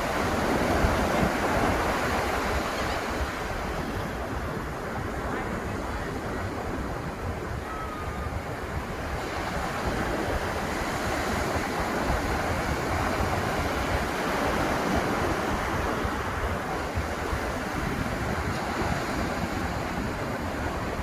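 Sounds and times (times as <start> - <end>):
ocean surf breaking: 0.0 - 21.0
wind noise on microphone: 0.0 - 21.0.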